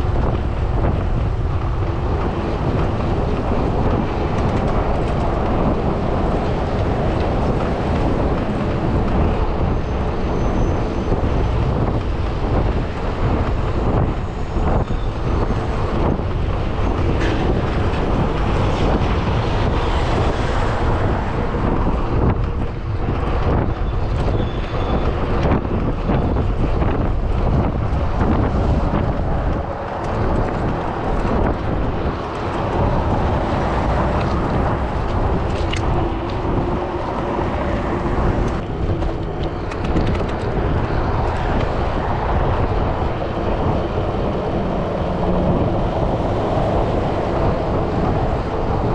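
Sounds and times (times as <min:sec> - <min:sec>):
road traffic: 0:00.0 - 0:48.9
wind noise on microphone: 0:00.0 - 0:48.9.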